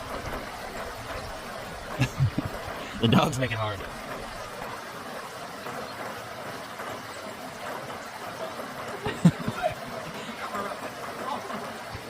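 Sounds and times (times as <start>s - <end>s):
stream water flowing over rocks: 0.0s - 12.0s.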